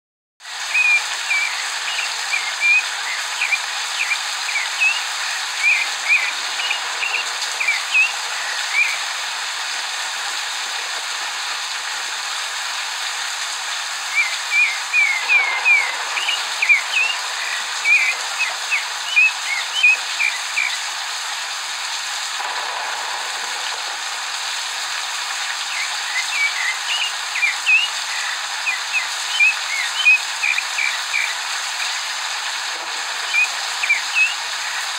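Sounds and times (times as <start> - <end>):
recorded rain hiss: 0.4 - 34.9.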